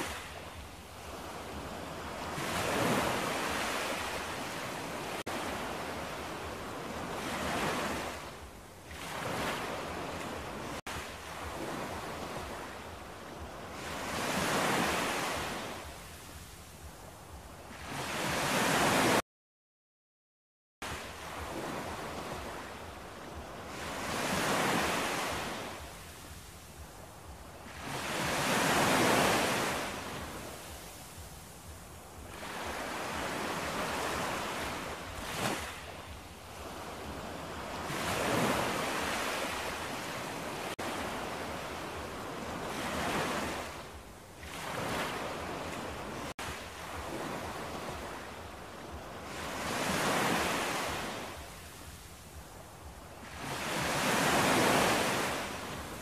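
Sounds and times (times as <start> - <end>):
sea waves breaking on shore: 0.0 - 19.2, 20.8 - 56.0.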